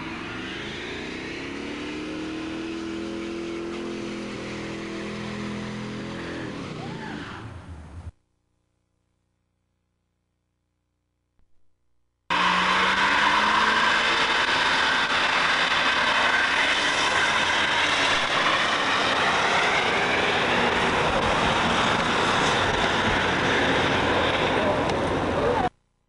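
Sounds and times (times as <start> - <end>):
engine revving high: 0.0 - 7.9, 12.3 - 25.7.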